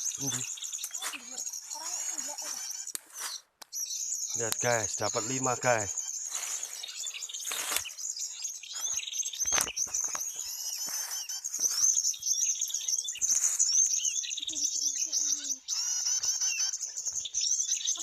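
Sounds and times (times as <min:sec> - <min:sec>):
birds chirping and twittering: 0:00.0 - 0:18.0.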